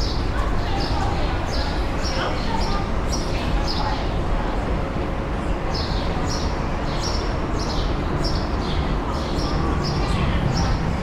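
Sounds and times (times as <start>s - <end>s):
background hubbub: 0.0s - 11.0s.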